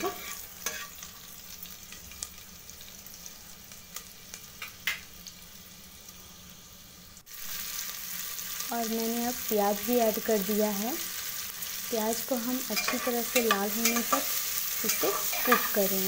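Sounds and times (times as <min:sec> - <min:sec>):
chillies sizzling in hot oil: 0:00.0 - 0:16.0.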